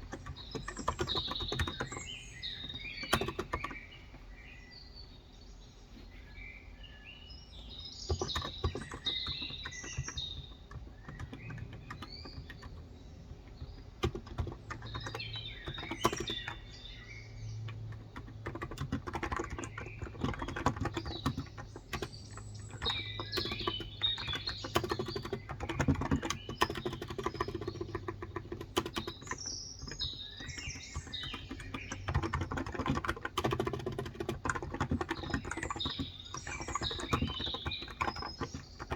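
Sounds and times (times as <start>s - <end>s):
typing on a keyboard: 0.0s - 3.9s, 8.1s - 38.9s
birds chirping: 0.0s - 38.9s.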